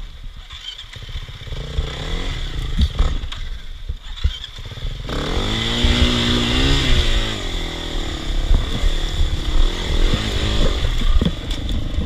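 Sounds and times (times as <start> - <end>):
dirt bike engine revving: 0.4 - 12.0.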